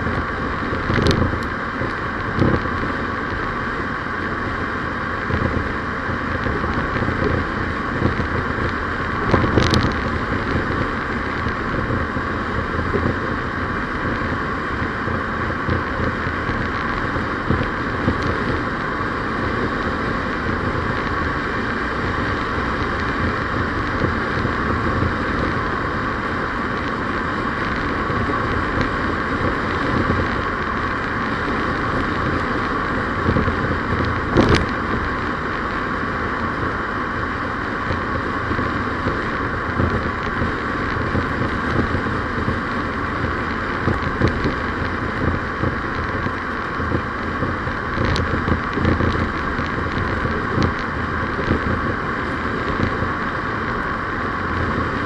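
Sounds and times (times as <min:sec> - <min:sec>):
road vehicle driving: 0:00.0 - 0:55.0.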